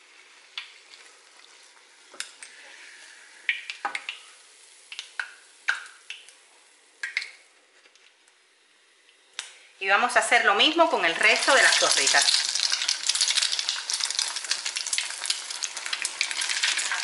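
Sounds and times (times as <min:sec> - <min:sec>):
hot oil sizzling in a saucepan: 0:00.0 - 0:07.5, 0:10.0 - 0:17.0.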